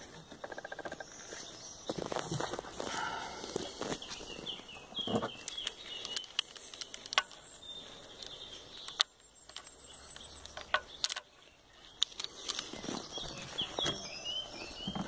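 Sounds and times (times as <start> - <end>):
handling clicks and rustles: 0.0 - 15.0.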